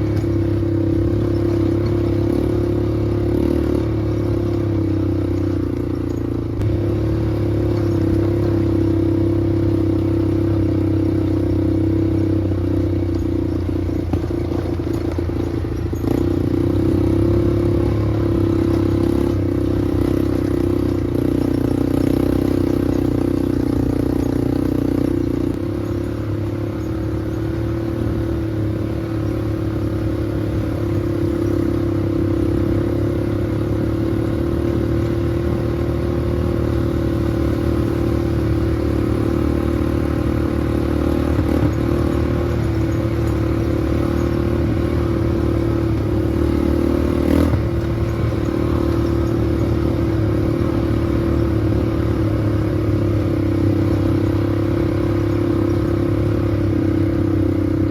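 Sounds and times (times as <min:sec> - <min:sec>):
small vehicle engine running: 0:00.0 - 0:57.9.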